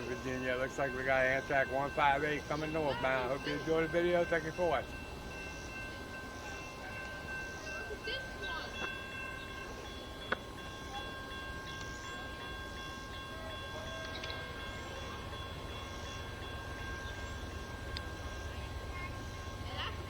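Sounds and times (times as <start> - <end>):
faint train rumble: 0.0 - 20.0
high ringing tones: 0.0 - 20.0.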